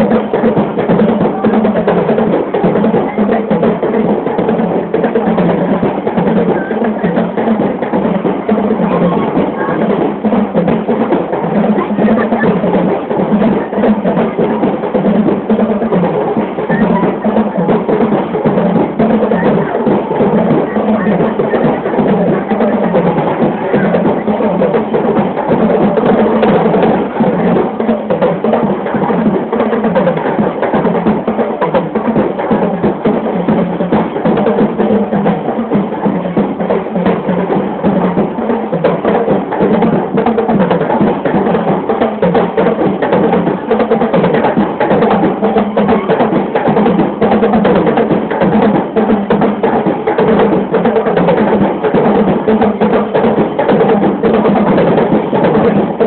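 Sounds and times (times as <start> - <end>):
percussion music with drums: 0.0 - 56.0.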